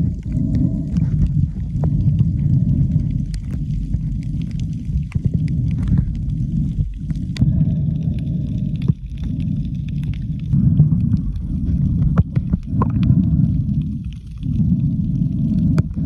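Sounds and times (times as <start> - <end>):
muffled underwater rumble: 0.0 - 16.0.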